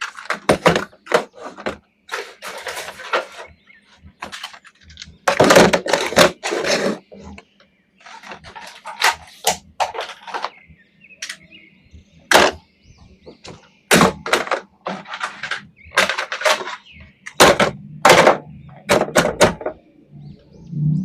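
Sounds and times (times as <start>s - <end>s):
plastic toys clicking and knocking: 0.0s - 10.6s, 11.2s - 11.5s, 12.3s - 12.6s, 13.3s - 19.8s.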